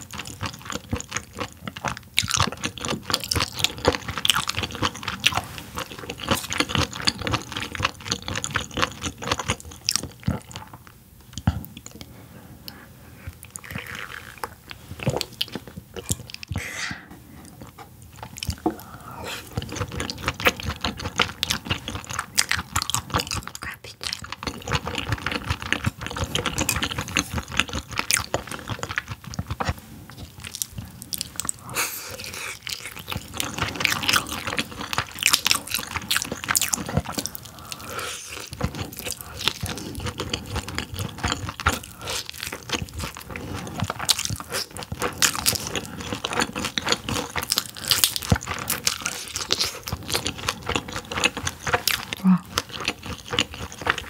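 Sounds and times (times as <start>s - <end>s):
person chewing and biting fish: 0.0s - 12.0s, 17.6s - 54.0s.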